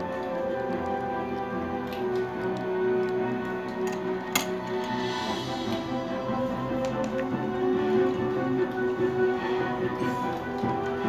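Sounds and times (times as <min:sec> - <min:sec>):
background music sustained notes: 0:00.0 - 0:11.0.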